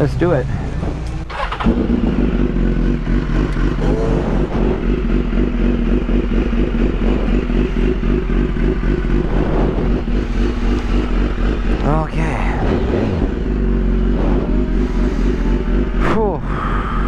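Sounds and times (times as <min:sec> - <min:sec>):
motorcycle engine idling: 0:01.1 - 0:17.0.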